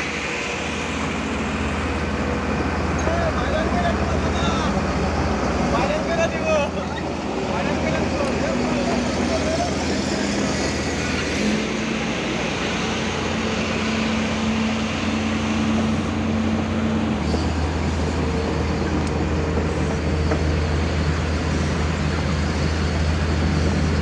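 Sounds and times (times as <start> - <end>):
excavator diesel engines running: 0.0 - 24.0.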